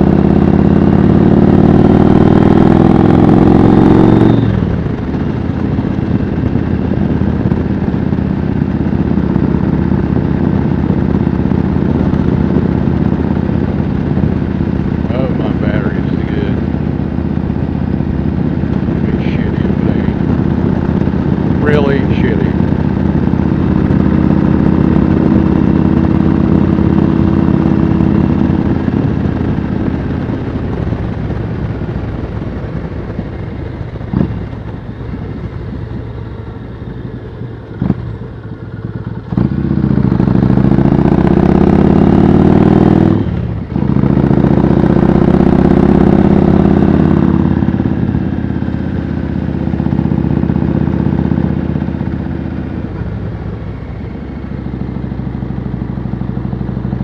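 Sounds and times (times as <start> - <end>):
motorcycle engine riding: 0.0 - 57.0.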